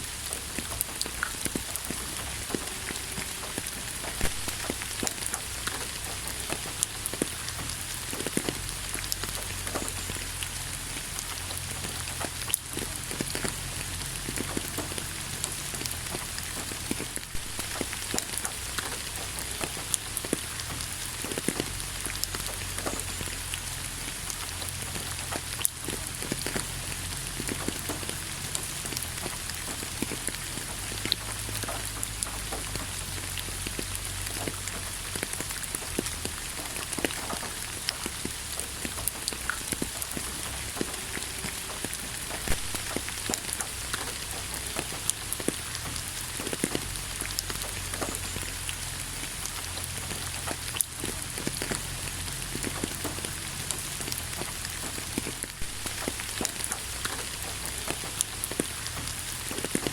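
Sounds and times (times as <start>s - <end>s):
rain falling: 0.0s - 59.9s
raindrops tapping on hard surface: 0.0s - 59.9s.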